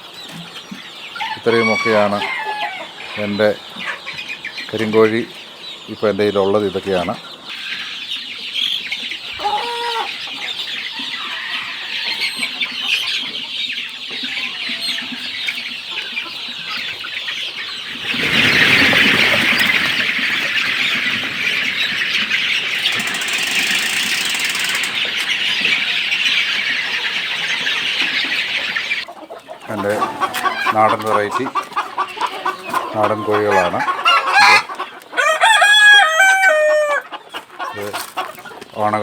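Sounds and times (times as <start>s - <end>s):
chickens cheeping and clucking: 0.0s - 39.0s.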